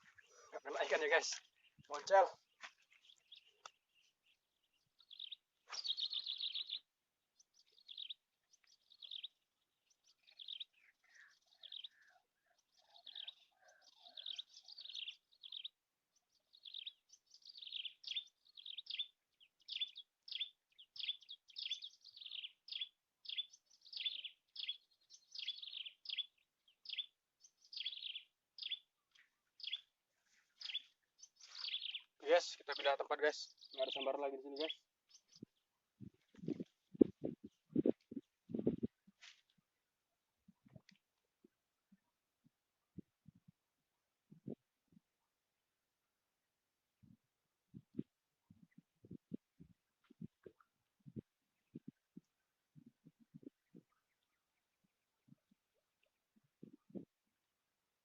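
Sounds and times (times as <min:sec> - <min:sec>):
small birds chirping: 0:00.0 - 0:43.5, 0:47.0 - 0:57.7.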